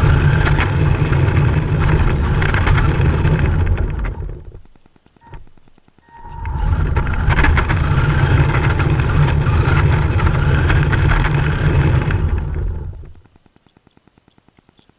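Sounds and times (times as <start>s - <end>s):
radio-controlled car driving: 0.0s - 13.4s.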